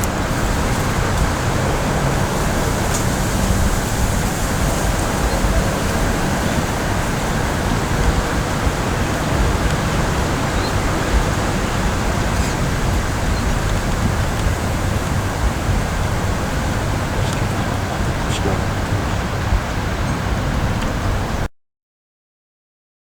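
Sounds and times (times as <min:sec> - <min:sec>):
strong wind on microphone: 0:00.0 - 0:21.5.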